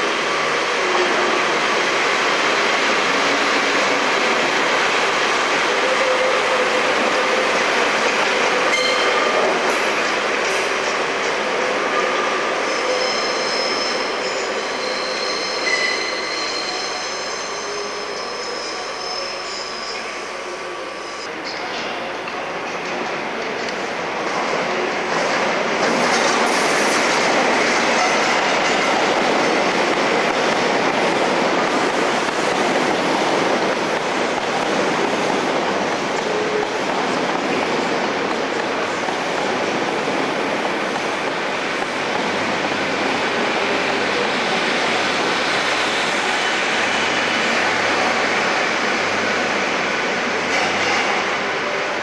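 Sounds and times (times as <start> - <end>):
train rolling noise: 0.0 - 52.0.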